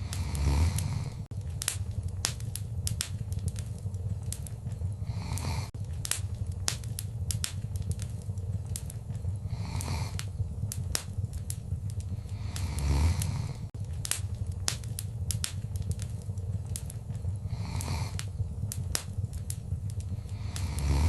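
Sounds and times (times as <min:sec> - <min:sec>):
flame hissing: 0:00.0 - 0:21.0
low rumble: 0:00.0 - 0:21.0
wood fire crackling and popping: 0:00.0 - 0:21.0.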